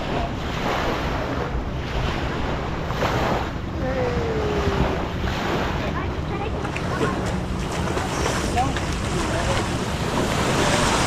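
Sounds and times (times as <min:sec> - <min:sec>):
water washing at shore: 0:00.0 - 0:11.0
wind on microphone: 0:00.0 - 0:11.0.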